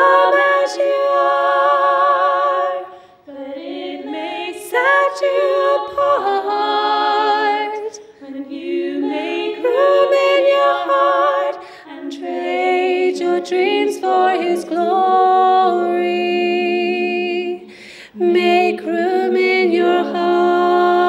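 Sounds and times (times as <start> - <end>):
women singing a cappella: 0.0 - 21.0.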